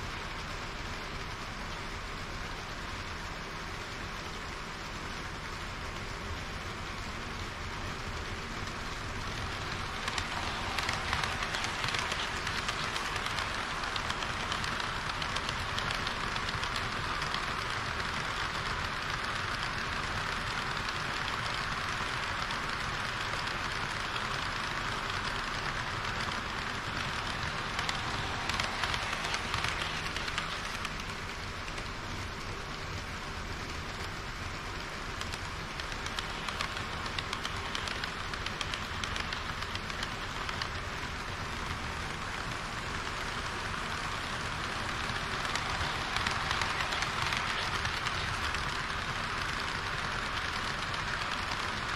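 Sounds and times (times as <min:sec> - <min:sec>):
model train wheels hissing: 0:00.0 - 0:51.9
clicking over rail joints: 0:05.8 - 0:51.9.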